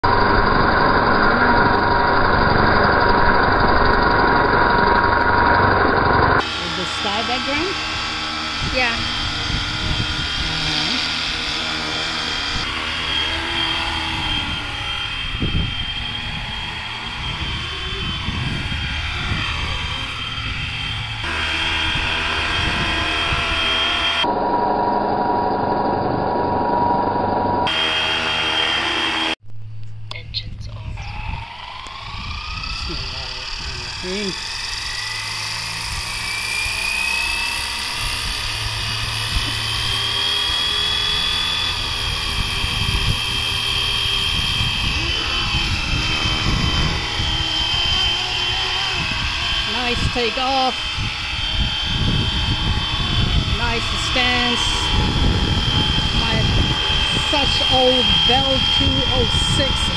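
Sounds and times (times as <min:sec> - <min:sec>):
rc helicopter rotor whine: 0:00.0 - 0:29.4, 0:30.7 - 0:59.9.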